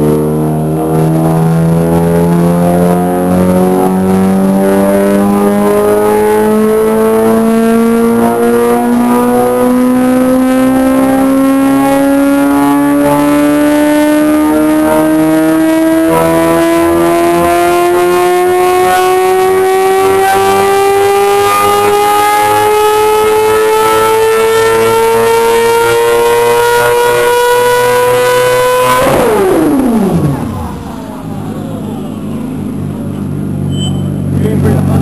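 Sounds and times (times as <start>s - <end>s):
motorcycle engine revving up: 0.0s - 35.0s.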